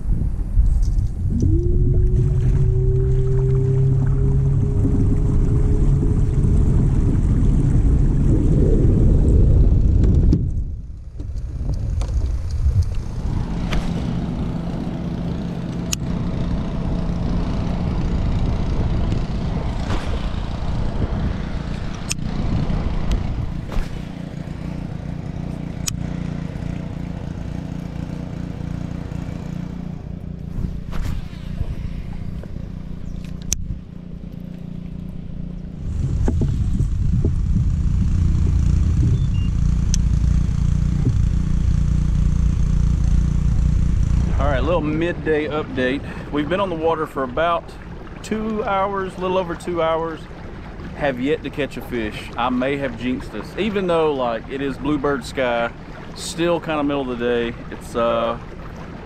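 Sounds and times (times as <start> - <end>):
water around a kayak: 0.0 - 59.0
wind: 0.0 - 59.0.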